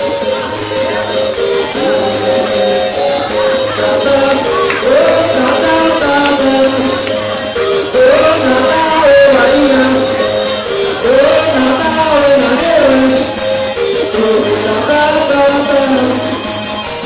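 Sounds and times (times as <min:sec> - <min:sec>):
upbeat dance music: 0:00.0 - 0:17.0.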